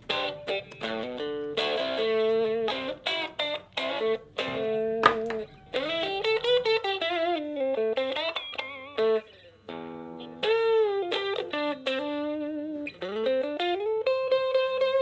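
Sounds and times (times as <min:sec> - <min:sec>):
electric guitar lead lines: 0:00.0 - 0:15.0.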